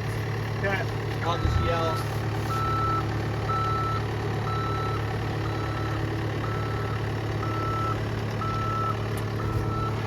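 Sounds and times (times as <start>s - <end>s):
backup alarm beeping: 1.3s - 10.0s.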